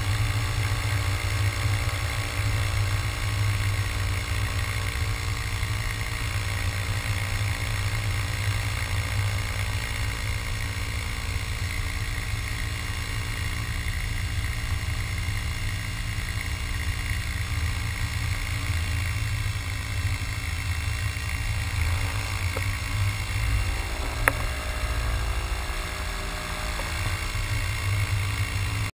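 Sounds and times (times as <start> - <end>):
electric motor and propeller running: 0.0 - 28.9.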